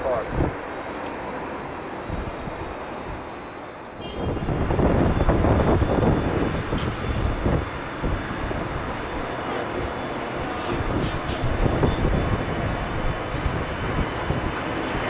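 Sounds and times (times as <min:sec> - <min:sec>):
jet engine high whine: 0:00.0 - 0:15.0
wind buffeting microphone: 0:00.2 - 0:00.7, 0:02.0 - 0:03.2, 0:04.0 - 0:15.0.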